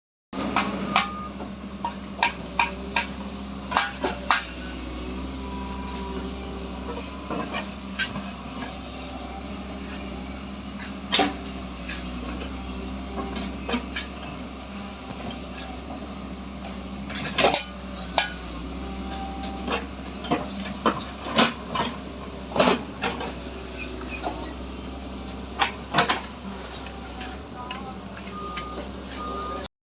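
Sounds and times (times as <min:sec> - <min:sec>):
backhoe engine running: 0:00.4 - 0:29.7.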